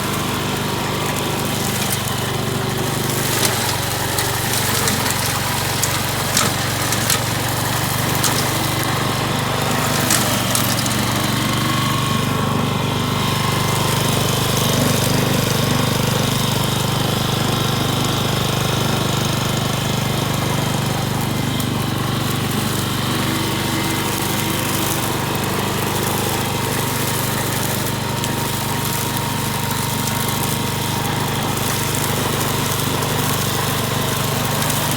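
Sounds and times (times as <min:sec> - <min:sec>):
mower engine running: 0:00.0 - 0:34.9.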